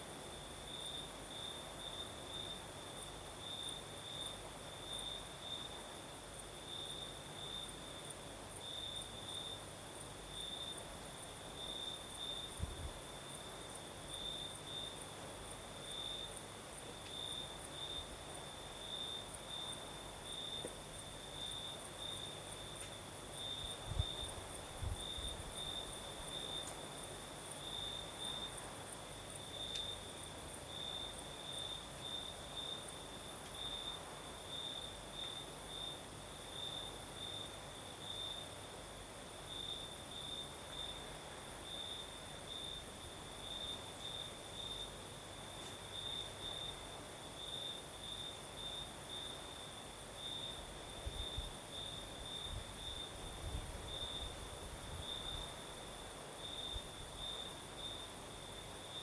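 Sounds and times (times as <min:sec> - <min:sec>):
crickets chirping: 0:00.1 - 0:59.0.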